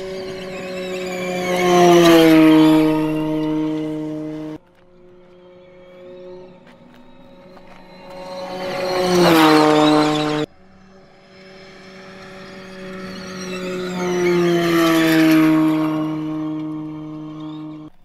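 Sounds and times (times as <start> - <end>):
rally car passing at speed: 0.0 - 17.9.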